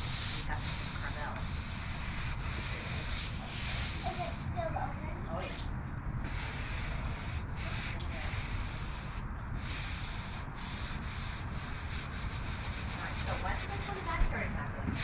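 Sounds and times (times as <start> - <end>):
sanding body filler: 0.0 - 4.5, 6.2 - 15.0.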